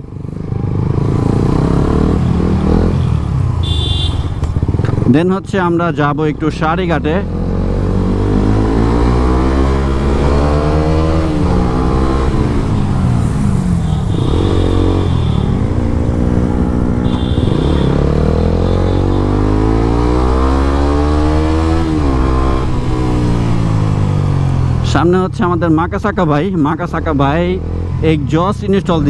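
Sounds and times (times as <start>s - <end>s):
motorcycle engine revving: 0.0s - 25.4s.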